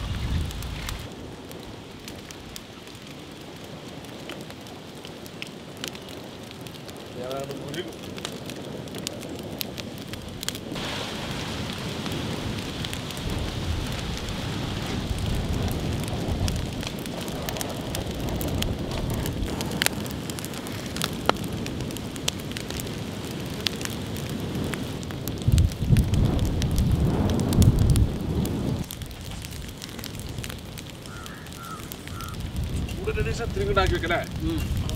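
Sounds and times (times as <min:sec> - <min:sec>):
fire crackling and popping: 0:00.0 - 0:34.9
rush of flames: 0:00.0 - 0:34.9.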